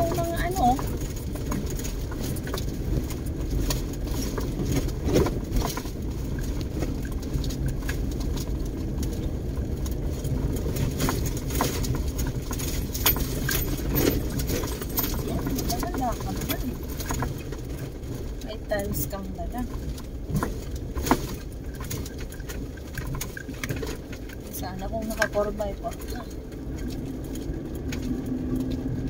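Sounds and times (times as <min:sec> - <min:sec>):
car body rattling: 0:00.0 - 0:29.0
car engine and tyres rumbling: 0:00.0 - 0:29.0
stones knocking under tyres: 0:00.0 - 0:29.0.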